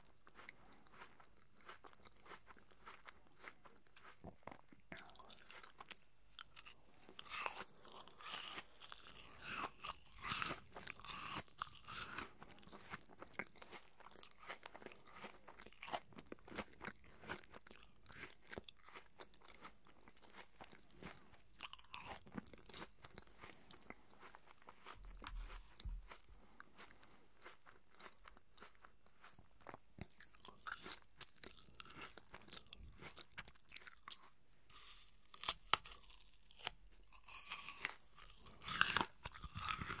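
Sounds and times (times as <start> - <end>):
closed-mouth chewing: 0.0 - 40.0
person crunching apple: 0.2 - 40.0.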